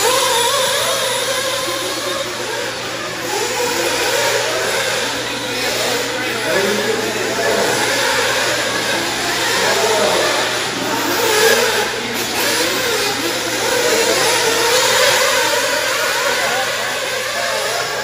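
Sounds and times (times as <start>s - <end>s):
radio-controlled car motors: 0.0s - 18.0s.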